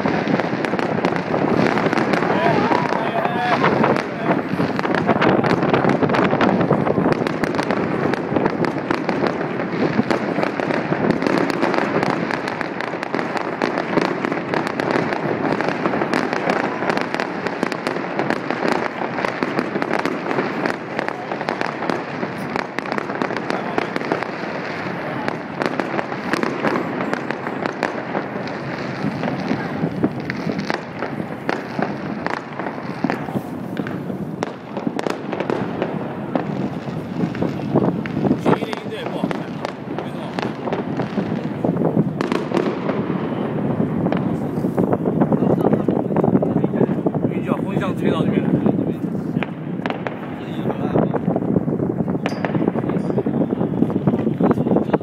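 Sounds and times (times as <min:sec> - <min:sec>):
fireworks bursting and crackling: 0:00.0 - 0:55.0
murmur of voices: 0:00.0 - 0:55.0.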